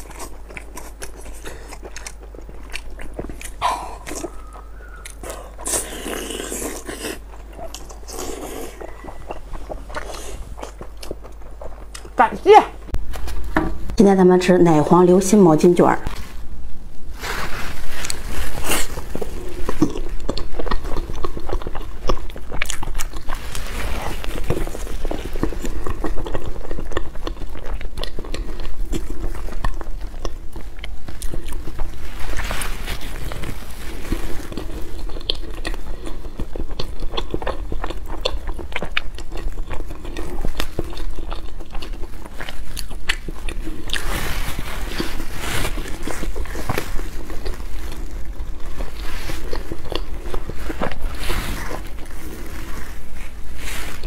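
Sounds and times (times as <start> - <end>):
chewing and mouth clicks: 0.0 - 12.2, 18.8 - 52.4.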